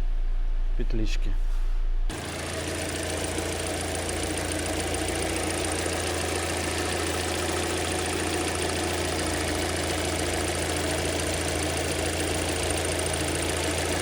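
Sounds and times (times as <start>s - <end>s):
car engine idling: 2.1s - 14.0s.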